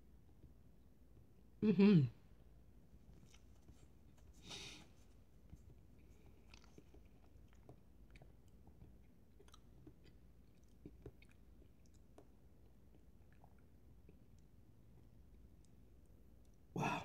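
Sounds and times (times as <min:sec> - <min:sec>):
faint chewing clicks and smacks: 0:03.0 - 0:16.7.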